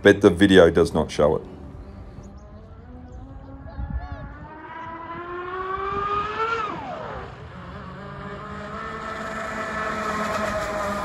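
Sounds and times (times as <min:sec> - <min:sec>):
electric motors whining: 0:01.5 - 0:11.0.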